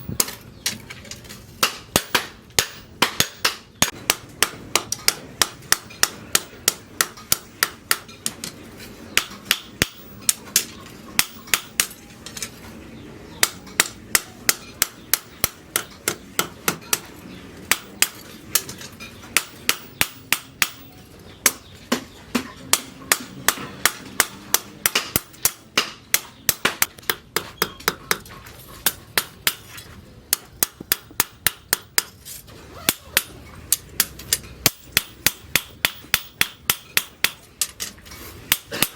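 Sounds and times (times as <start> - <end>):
hammer striking steel on anvil: 1.6 - 8.4, 9.1 - 12.0, 13.4 - 17.1, 17.7 - 32.2, 32.9 - 37.8.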